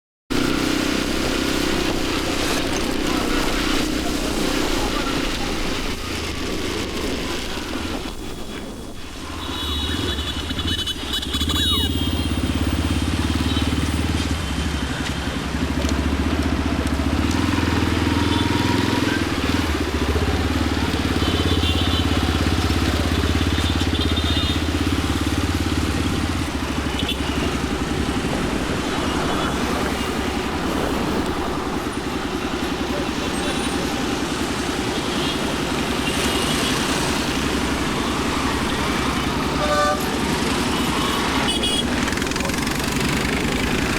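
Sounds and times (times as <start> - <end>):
motorcycle engine drone: 0.3 - 43.9
road and traffic noise: 0.3 - 43.9.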